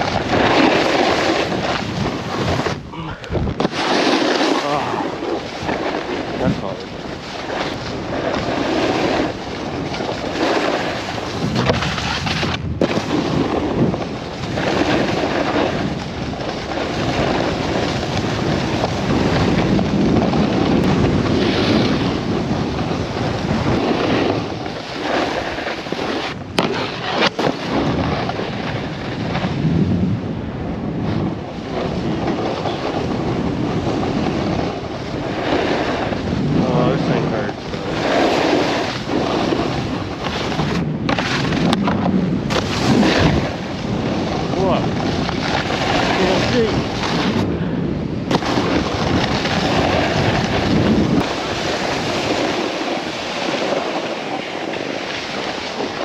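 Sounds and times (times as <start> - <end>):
snowboard scraping over hard snow: 0.0 - 56.0
wind rushing over microphone: 0.0 - 56.0.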